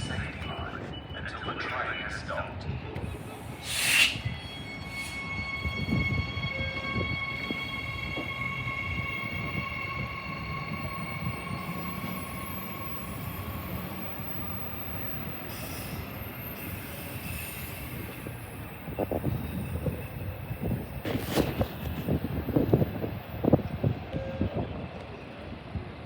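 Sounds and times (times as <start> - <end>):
high steady train squeal: 0.0 - 26.0
train wheels rumbling: 2.7 - 26.0.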